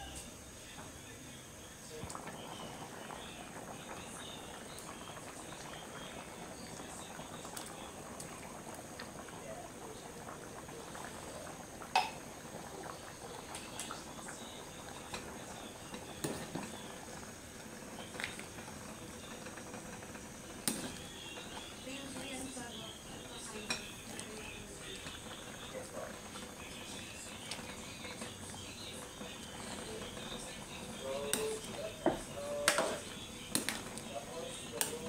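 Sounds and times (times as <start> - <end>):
liquid bubbling in a pan: 0.0 - 35.0.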